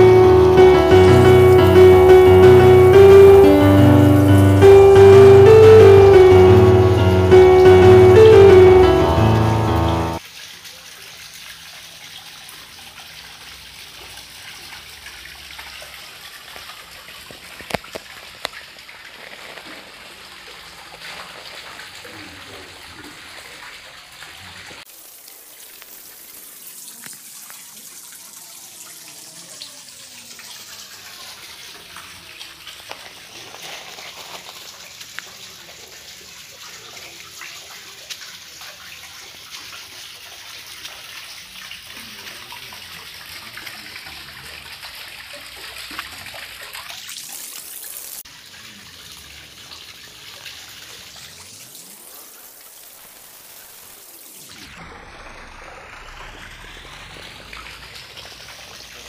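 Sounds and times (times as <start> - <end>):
water trickling into pond: 10.2 - 59.0.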